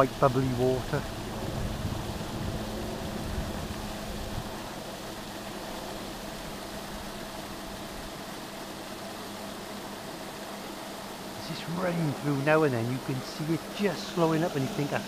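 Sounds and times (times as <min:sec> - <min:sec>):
aerator motor hum: 0:00.0 - 0:15.0
churning bubbling water: 0:00.0 - 0:15.0.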